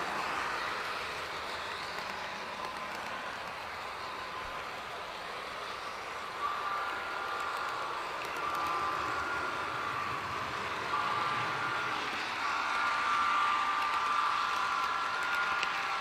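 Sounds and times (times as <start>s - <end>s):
high steady tones: 0.0s - 16.0s
model train wheels rattling on rail: 0.0s - 16.0s.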